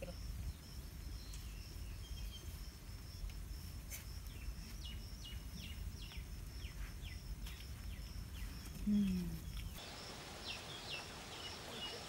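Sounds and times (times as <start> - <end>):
bird chirping: 0.0 - 2.6, 4.2 - 12.0.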